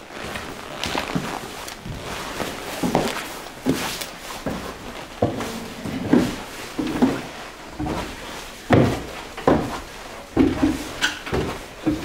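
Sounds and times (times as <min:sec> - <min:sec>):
footsteps on wooden stairs: 0:00.0 - 0:12.0.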